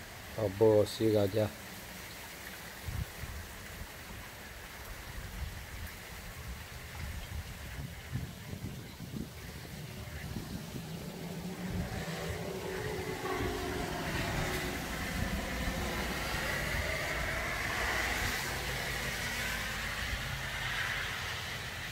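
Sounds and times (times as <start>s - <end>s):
heavy rain hissing: 0.0s - 21.9s.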